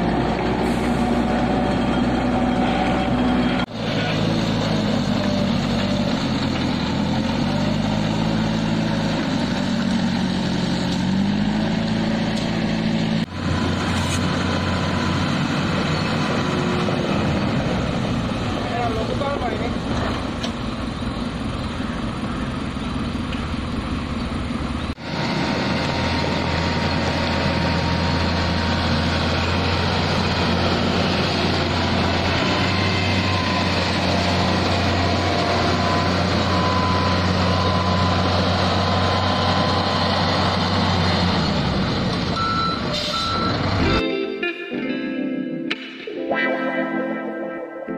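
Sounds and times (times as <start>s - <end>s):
construction machinery engines: 0.0s - 44.0s.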